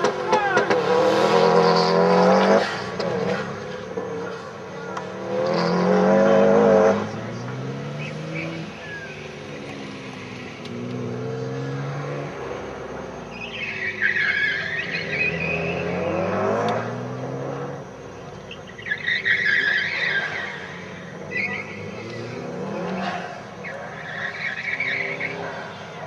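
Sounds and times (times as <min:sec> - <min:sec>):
car engine revving: 0:00.0 - 0:26.0
tyres squealing: 0:00.0 - 0:26.0.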